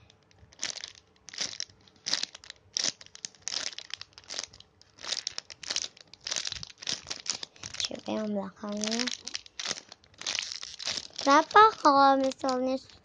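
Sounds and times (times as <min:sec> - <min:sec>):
plastic and paper crinkling: 0:00.0 - 0:13.0.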